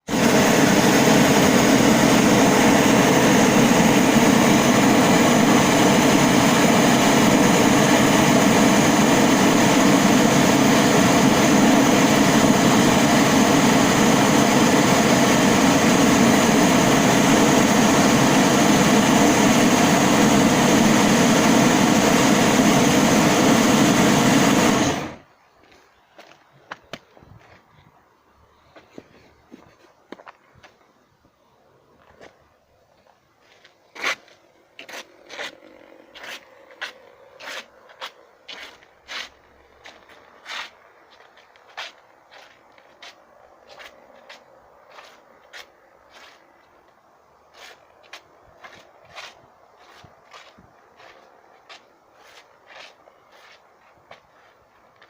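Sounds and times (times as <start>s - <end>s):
loud steady mechanical noise: 0.0s - 26.4s, 33.5s - 55.0s.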